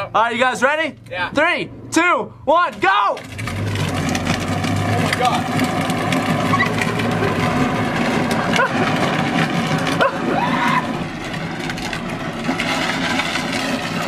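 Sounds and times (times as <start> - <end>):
road noise: 0.0 - 14.0
rushing wind: 0.0 - 14.0
steady crackle: 0.0 - 14.0.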